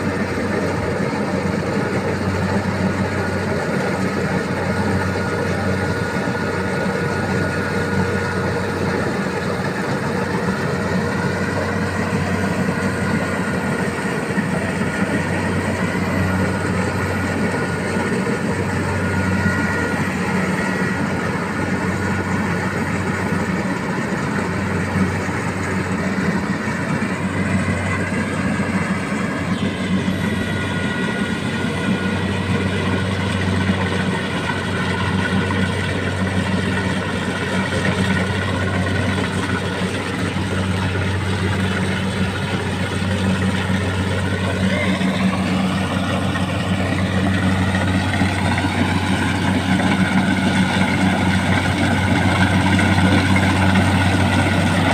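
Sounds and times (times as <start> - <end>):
combine harvester droning: 0.0 - 54.9.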